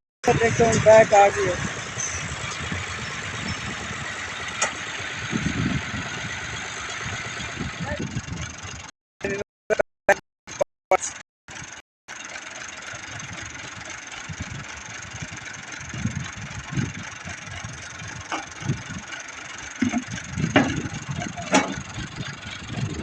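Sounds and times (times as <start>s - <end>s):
engine chugging unevenly: 0.2s - 9.8s, 10.5s - 23.0s.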